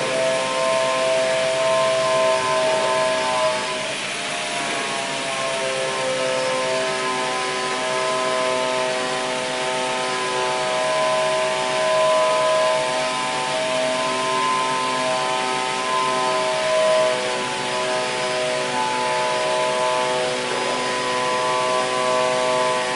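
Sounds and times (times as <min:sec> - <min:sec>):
machinery humming: 0:00.0 - 0:22.9.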